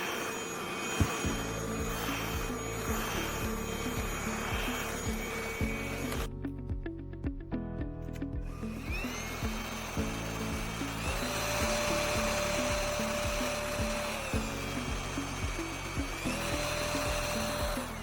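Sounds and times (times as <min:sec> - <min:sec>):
stick vacuum motor whining: 0:00.0 - 0:06.4, 0:08.4 - 0:18.0
background music with steady beat: 0:01.0 - 0:18.0.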